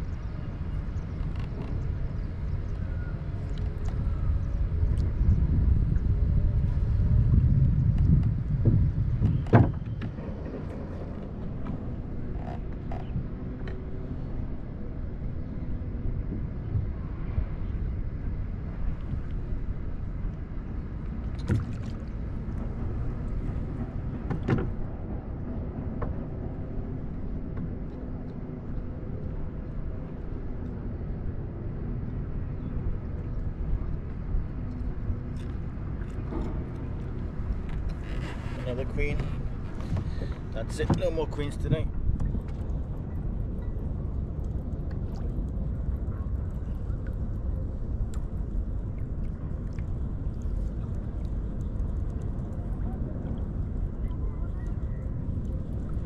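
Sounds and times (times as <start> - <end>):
wind and water rumble: 0.0 - 56.0.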